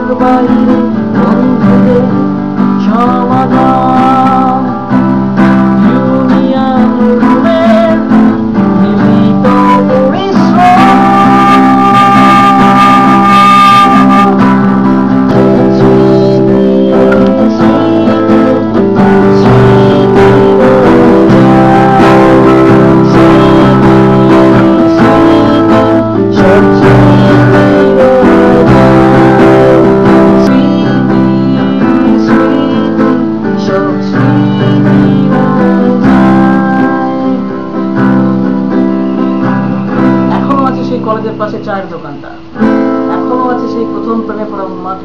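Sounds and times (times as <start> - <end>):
acoustic guitar strumming chords: 0.0 - 45.0
person singing: 0.0 - 45.0.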